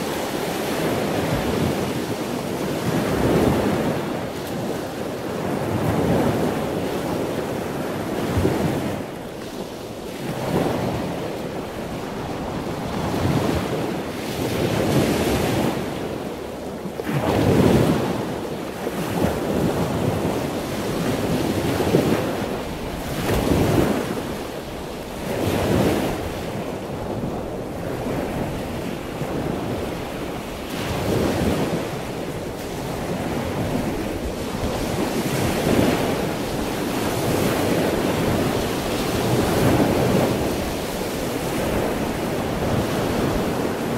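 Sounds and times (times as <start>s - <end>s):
surf breaking and washing in: 0.0s - 43.9s
wind buffeting microphone: 0.0s - 43.9s.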